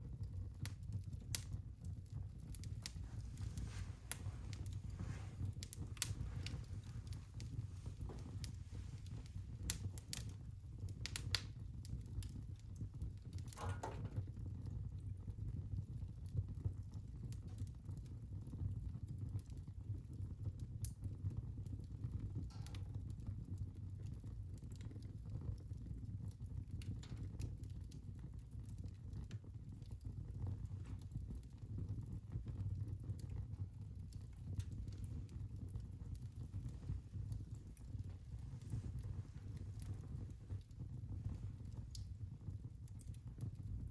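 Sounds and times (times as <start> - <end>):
fire crackling and popping: 0.0 - 43.9
fire flames rumbling: 0.0 - 43.9.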